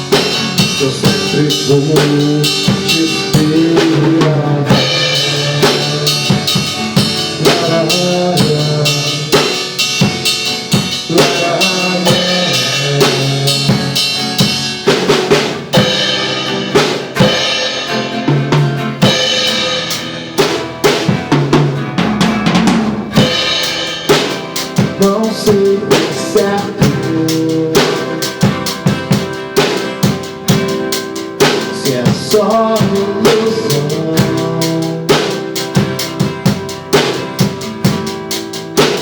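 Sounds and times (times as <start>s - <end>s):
drum kit beat: 0.0s - 39.0s.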